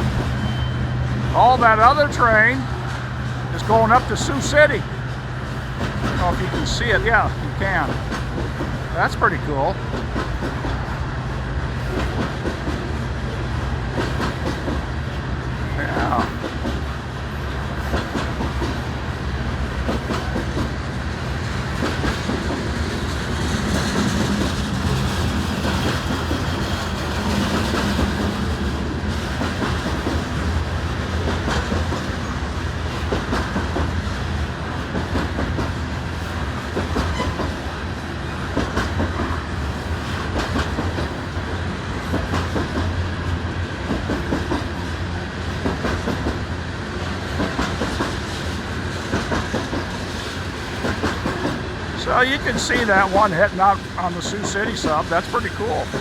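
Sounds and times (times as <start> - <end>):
freight train rumble: 0.0 - 56.0
train wheels clicking over rail joints: 0.0 - 56.0.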